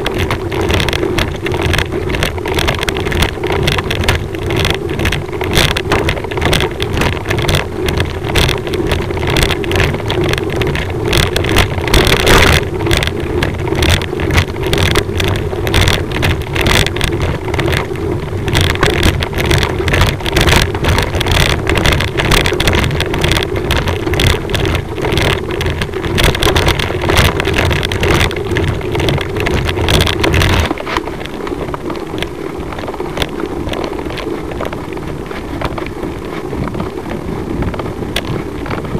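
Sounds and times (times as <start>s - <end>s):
vehicle engine rumbling: 0.0s - 38.9s
wind buffeting microphone: 0.0s - 38.9s.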